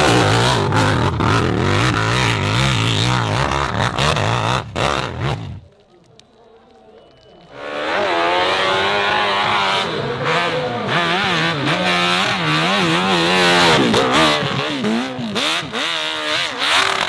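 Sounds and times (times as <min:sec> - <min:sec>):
racing motorcycle engine revving: 0:00.0 - 0:05.6, 0:07.5 - 0:17.0.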